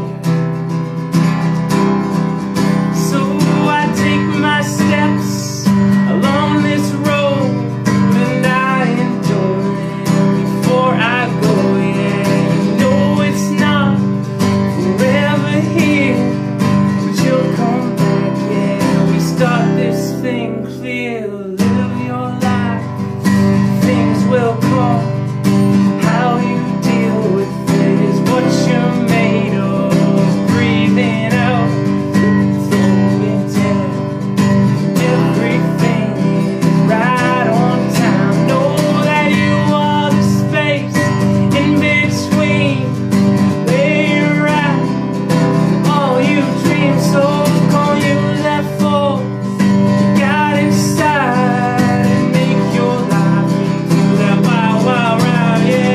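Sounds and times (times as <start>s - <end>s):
acoustic guitar strumming: 0.0s - 55.9s
man singing: 0.0s - 55.9s.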